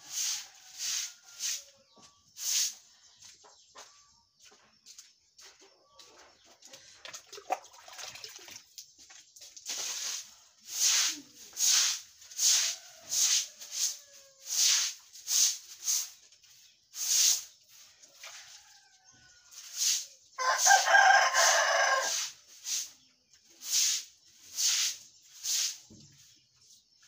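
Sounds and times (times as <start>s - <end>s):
broom sweeping wet concrete: 0.0s - 4.0s, 9.2s - 27.0s.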